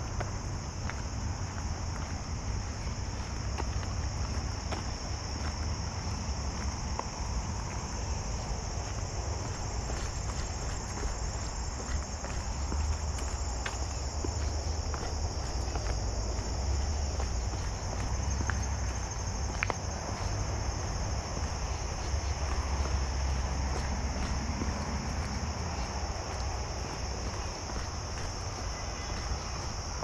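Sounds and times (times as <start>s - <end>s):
footsteps on pavement: 0.0s - 30.0s
insects chirring: 0.0s - 30.0s.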